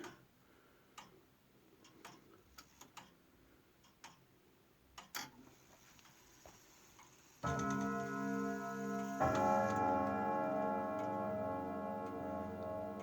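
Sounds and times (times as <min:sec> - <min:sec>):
clock ticking: 0:00.0 - 0:05.4, 0:07.0 - 0:13.0.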